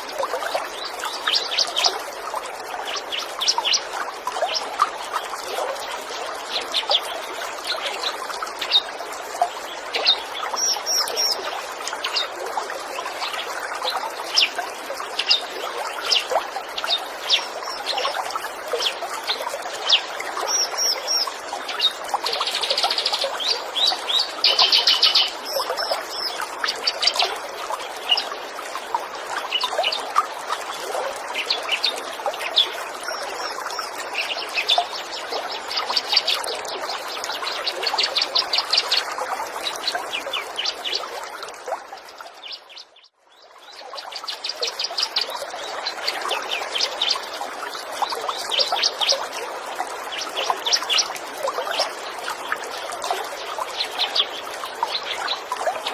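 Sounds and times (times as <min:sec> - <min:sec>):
trickle of running water: 0:00.0 - 0:55.9.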